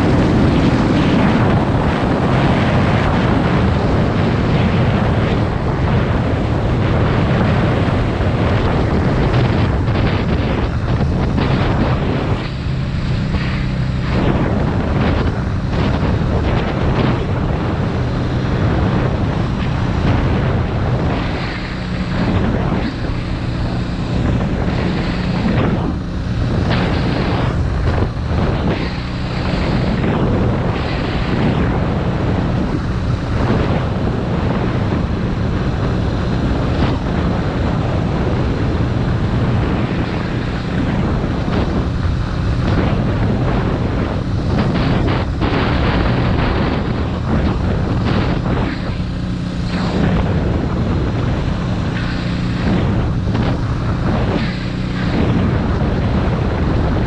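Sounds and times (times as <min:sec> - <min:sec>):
motorcycle engine cruising: 0:00.0 - 0:57.0
wind buffeting microphone: 0:00.0 - 0:57.0.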